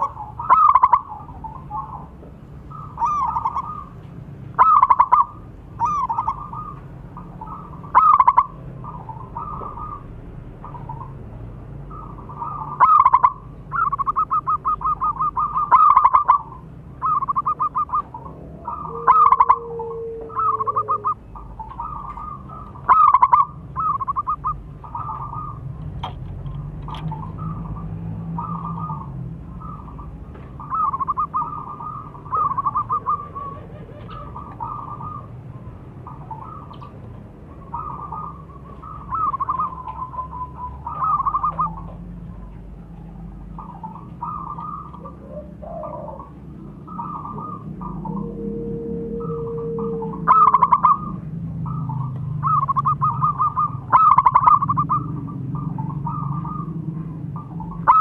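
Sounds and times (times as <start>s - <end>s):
doves cooing: 0.0s - 58.0s.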